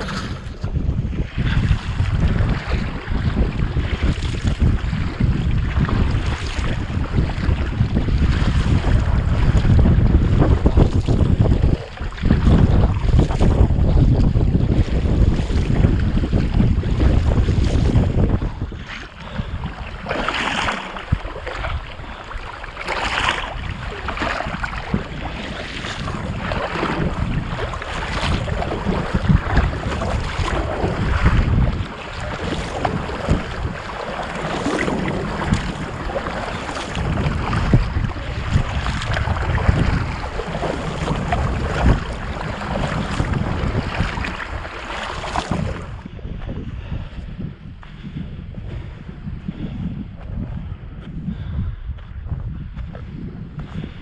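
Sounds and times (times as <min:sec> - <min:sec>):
water splashing around kayak: 0:00.0 - 0:54.0
wind buffeting microphone: 0:00.0 - 0:54.0.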